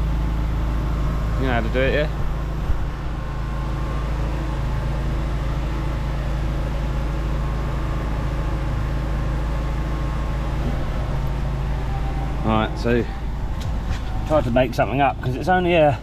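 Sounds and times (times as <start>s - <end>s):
machine engine humming: 0.0s - 16.0s.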